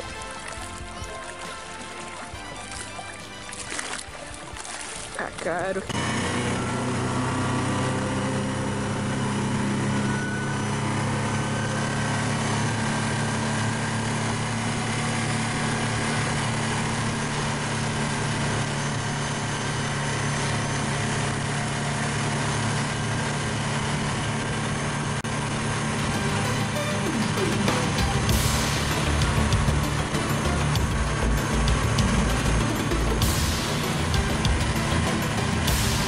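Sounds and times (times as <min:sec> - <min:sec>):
motorboat engine running: 0:00.0 - 0:36.0.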